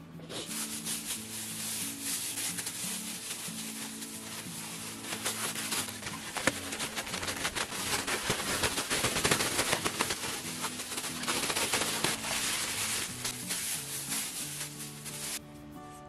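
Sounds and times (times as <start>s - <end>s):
plastic bag crinkling and rustling: 0.3s - 15.4s.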